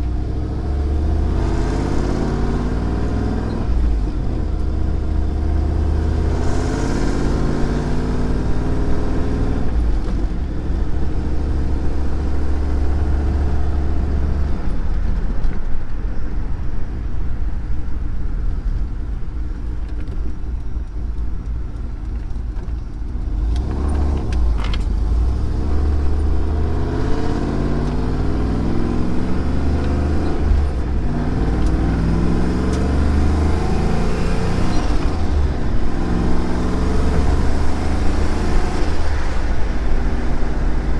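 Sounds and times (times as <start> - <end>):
car engine accelerating: 0.0 - 16.6, 19.6 - 40.9.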